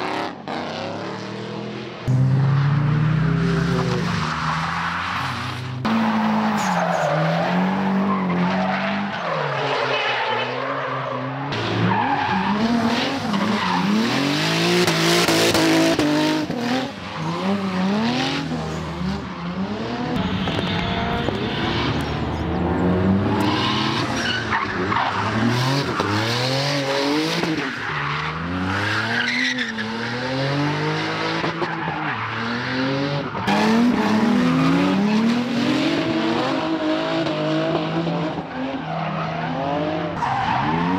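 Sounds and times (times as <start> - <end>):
car engines revving hard: 0.0 - 40.9.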